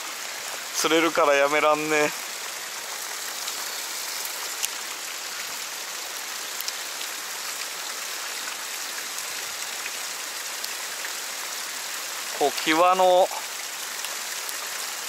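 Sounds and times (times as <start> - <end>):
rain hissing: 0.0 - 15.0
stream running over bedrock: 0.0 - 15.0.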